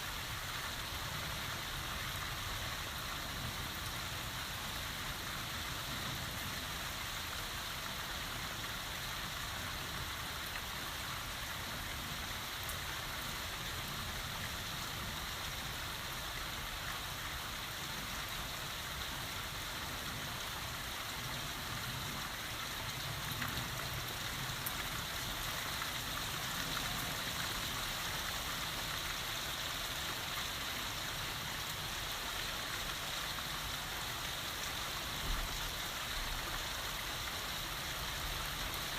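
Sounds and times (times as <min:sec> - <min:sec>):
heavy rain on surfaces: 0:00.0 - 0:38.9.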